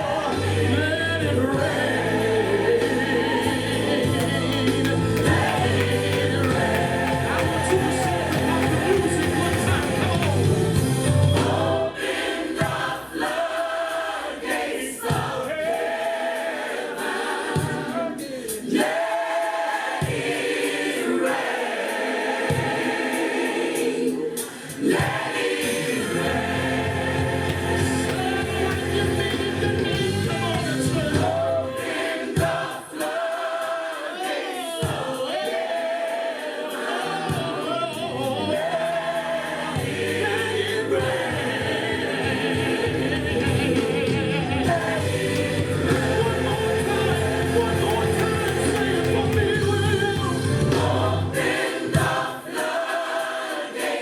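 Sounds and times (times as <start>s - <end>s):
gospel choir singing: 0.0s - 54.0s
accompanying instruments: 1.6s - 19.0s, 19.6s - 33.7s, 36.7s - 53.2s.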